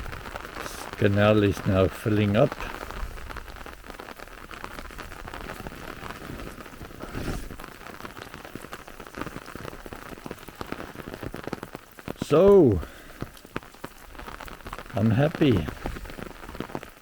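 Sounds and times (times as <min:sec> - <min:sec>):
raindrops pattering: 0:00.0 - 0:17.0
rainwater rushing into canal: 0:00.0 - 0:17.0.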